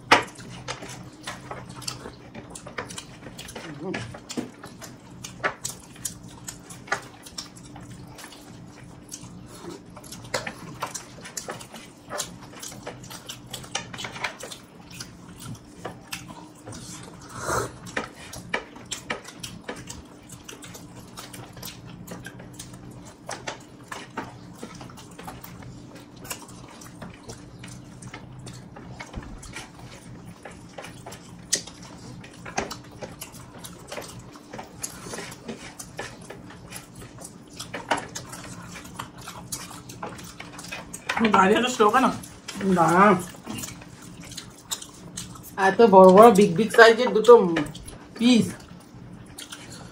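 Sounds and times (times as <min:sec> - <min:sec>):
low even hum: 0:00.0 - 0:49.9
wet chewing and lip-smacking: 0:00.1 - 0:49.9.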